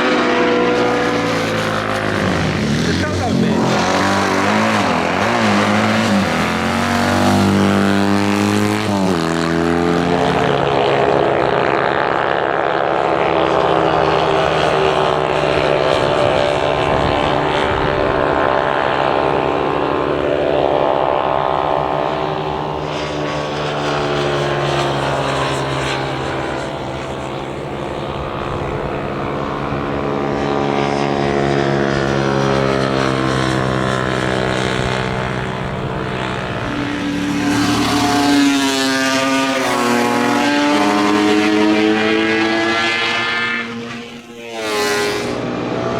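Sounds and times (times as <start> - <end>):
motorcycles racing past: 0.0 - 45.9.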